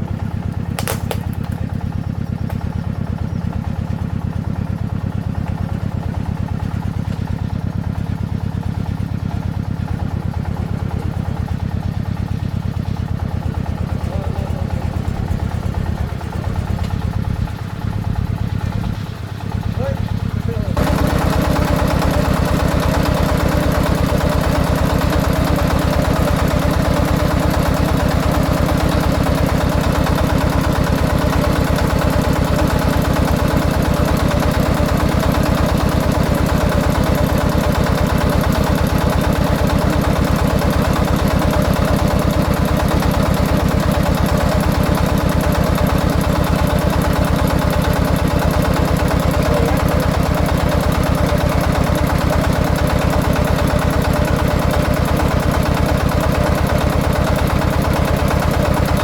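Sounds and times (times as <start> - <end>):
single-cylinder diesel engine chugging: 0.0 - 59.0.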